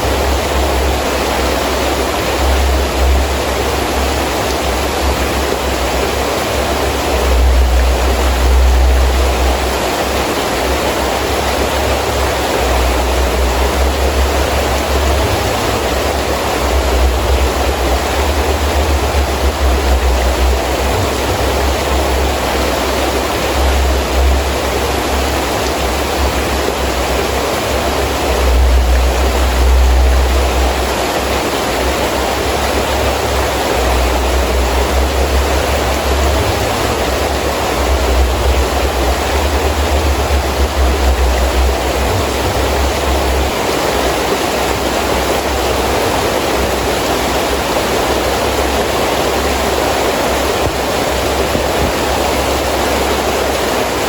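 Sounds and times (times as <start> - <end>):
deep wind rumble: 0.0 - 47.8
heavy rain hissing: 0.0 - 54.0.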